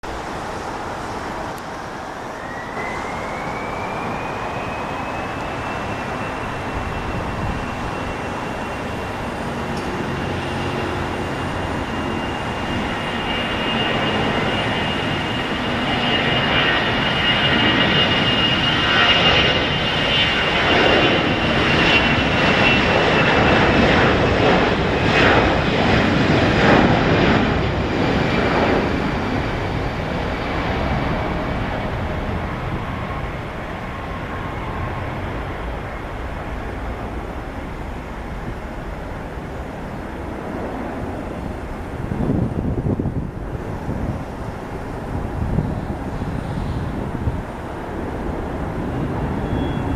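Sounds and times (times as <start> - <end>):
jet engines whining: 0.0 - 49.9.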